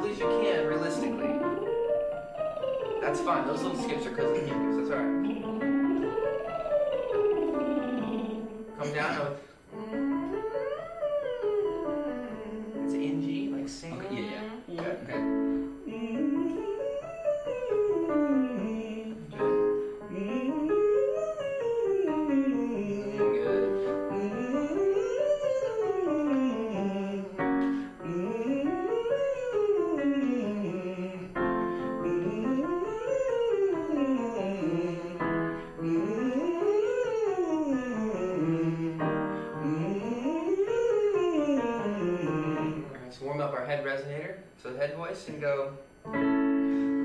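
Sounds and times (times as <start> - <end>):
man singing pitch slides: 0.0 - 44.9
piano notes: 0.0 - 47.0.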